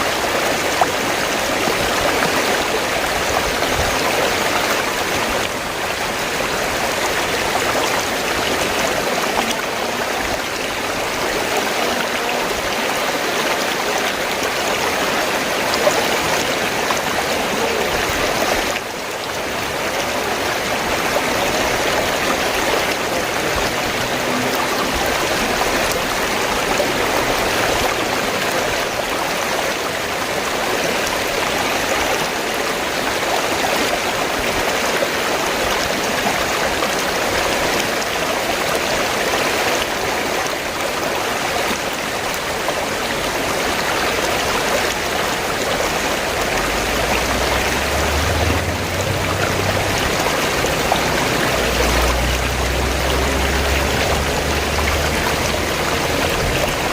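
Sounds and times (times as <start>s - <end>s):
river water splashing: 0.0s - 56.9s.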